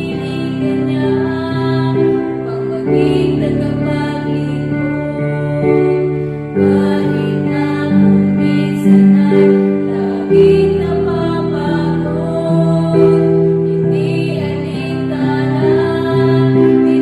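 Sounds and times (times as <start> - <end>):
slow gentle music of sustained chords: 0.0 - 17.0.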